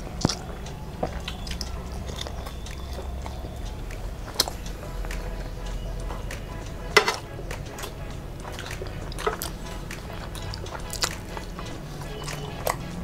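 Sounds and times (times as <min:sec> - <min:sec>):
wet squishing of food by hand: 0:00.0 - 0:05.5, 0:06.8 - 0:13.0
chewing: 0:00.0 - 0:13.0
lip smacks: 0:00.0 - 0:13.0.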